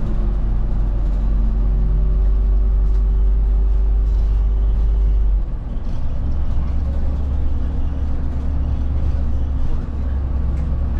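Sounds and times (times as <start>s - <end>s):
bus engine droning: 0.0s - 10.9s.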